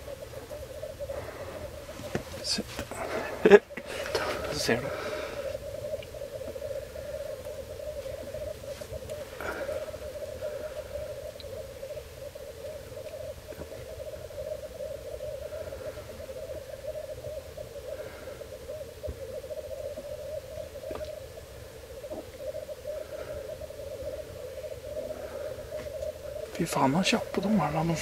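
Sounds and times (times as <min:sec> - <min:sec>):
grouse bubbling cooing chorus: 0:00.0 - 0:28.0
higher bird calls: 0:00.0 - 0:28.0.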